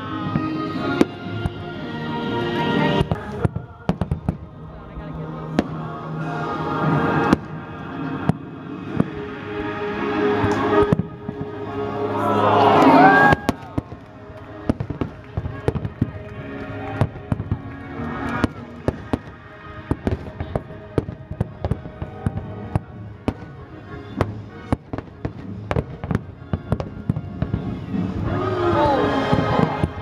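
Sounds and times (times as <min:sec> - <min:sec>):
music: 0:00.0 - 0:30.0
fireworks bangs and crackles: 0:02.8 - 0:11.7, 0:12.8 - 0:30.0.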